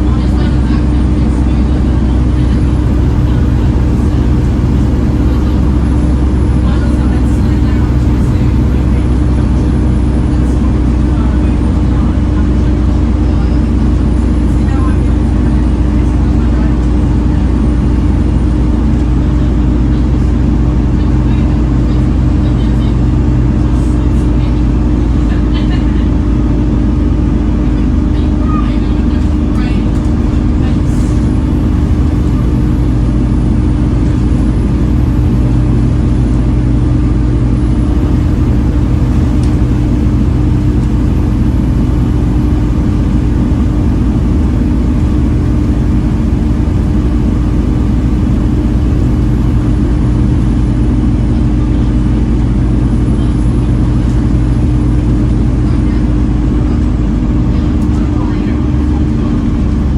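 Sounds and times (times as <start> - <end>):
bus engine droning: 0.0 - 59.9
constant whining tone: 0.0 - 59.9.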